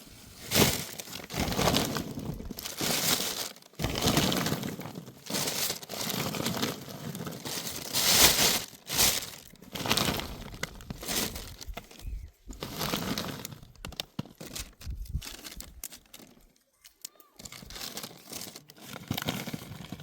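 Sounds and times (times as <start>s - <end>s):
irregular crunching and crackling: 0.3s - 20.0s.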